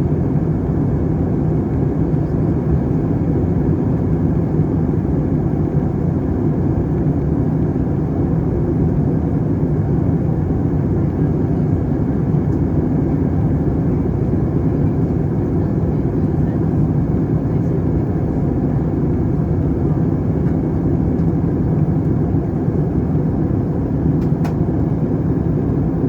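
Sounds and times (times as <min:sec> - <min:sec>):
airliner cabin engine roar: 0:00.0 - 0:26.0.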